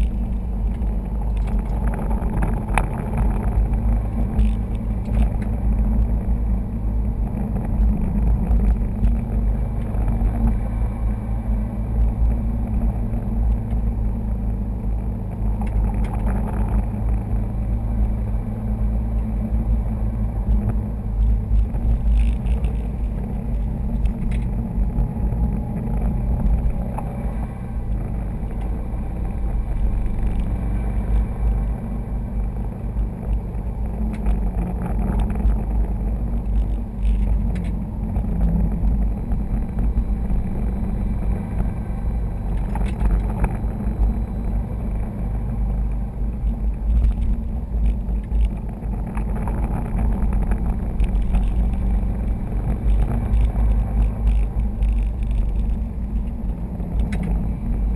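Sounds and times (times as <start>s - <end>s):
engine and tyre rumble: 0.0s - 57.9s.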